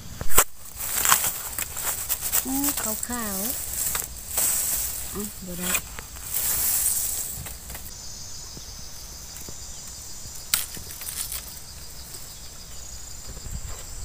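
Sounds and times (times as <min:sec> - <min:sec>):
dry leaves rustling: 0:00.0 - 0:14.0
high-pitched insect buzz: 0:00.0 - 0:14.0.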